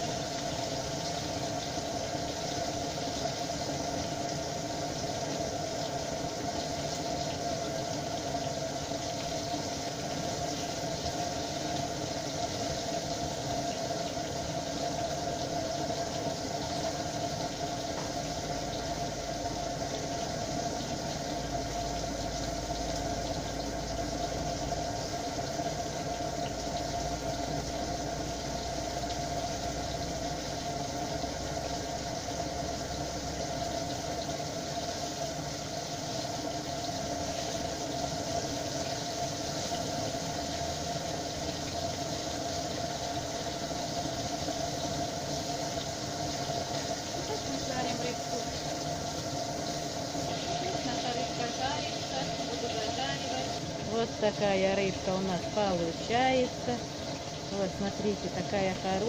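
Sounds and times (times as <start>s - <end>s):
fish frying in oil: 0.0s - 59.0s
mechanical hum: 0.0s - 59.0s.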